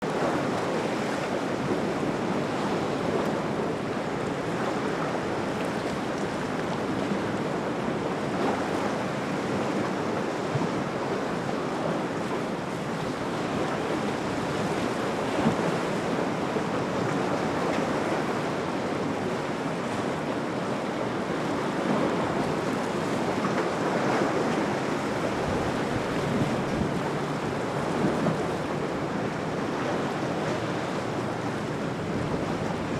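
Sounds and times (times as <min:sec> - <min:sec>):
waves and surf rushing: 0:00.0 - 0:32.9
wind buffeting microphone: 0:00.0 - 0:32.9.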